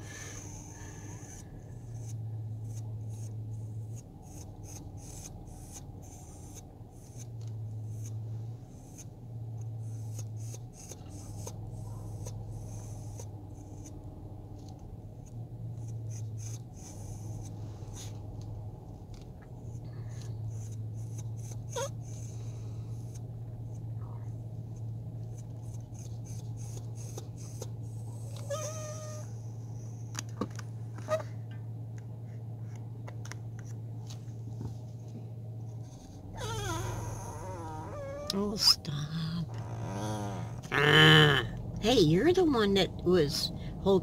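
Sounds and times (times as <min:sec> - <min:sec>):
pet whining: 0:00.0 - 0:18.5, 0:19.1 - 0:30.2, 0:35.7 - 0:41.7
vehicle engine humming: 0:00.0 - 0:44.0.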